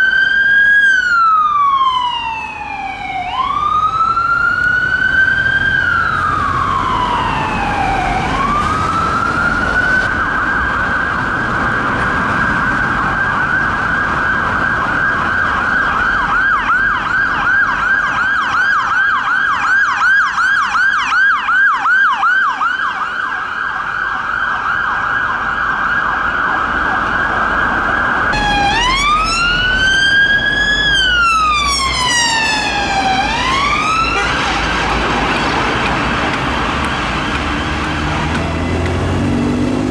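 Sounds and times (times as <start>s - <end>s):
emergency vehicle sirens: 0.0s - 39.9s
low traffic rumble: 0.0s - 39.9s.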